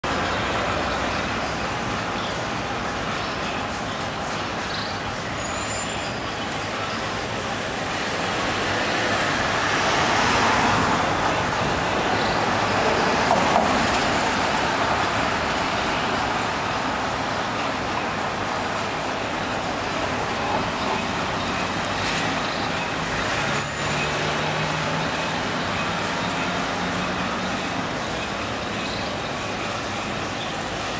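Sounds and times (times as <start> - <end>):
passing vehicles: 0.0 - 30.9
street traffic hum: 0.0 - 30.9.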